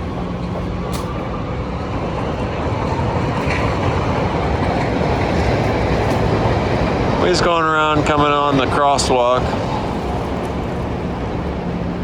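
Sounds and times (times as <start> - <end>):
low engine hum: 0.0 - 12.0
train rumble and wheel clatter: 0.0 - 12.0.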